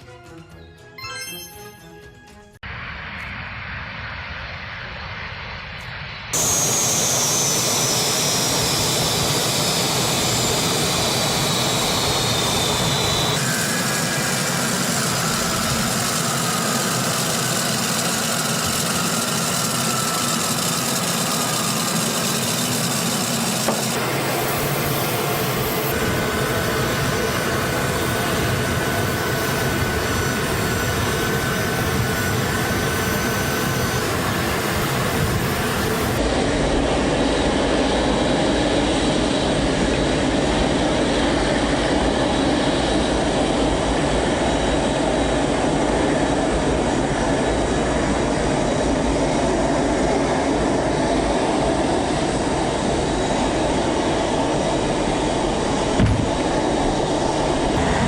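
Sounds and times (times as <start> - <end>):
aircraft turbine engine whine: 2.6 - 58.0.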